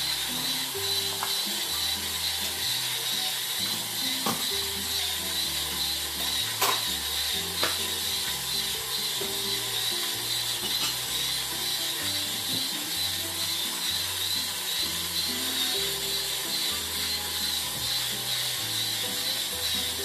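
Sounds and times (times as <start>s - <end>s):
coffee grinder grinding: 0.0s - 20.0s
soft background music: 0.0s - 20.0s.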